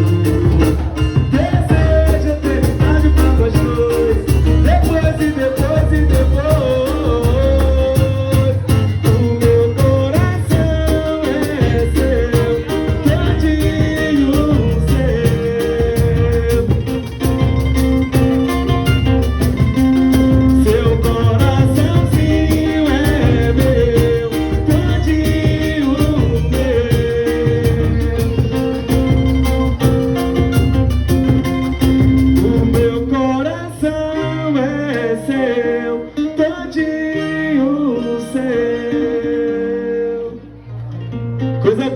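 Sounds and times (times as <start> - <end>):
song with band: 0.0 - 41.9.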